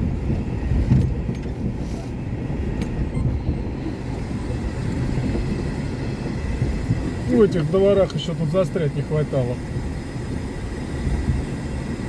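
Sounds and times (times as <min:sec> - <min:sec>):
tyres rumbling on rough road: 0:00.0 - 0:12.0.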